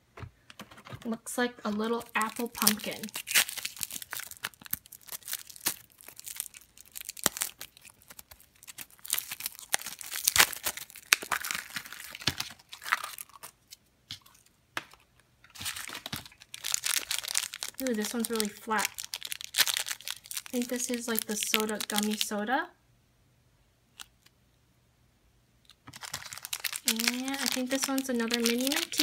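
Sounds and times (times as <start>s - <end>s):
plastic packaging crinkling and tearing: 1.7s - 22.4s, 25.7s - 29.0s.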